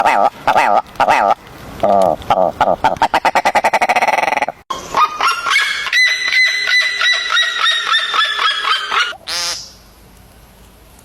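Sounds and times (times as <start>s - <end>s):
animal repeated calls: 0.0s - 9.6s.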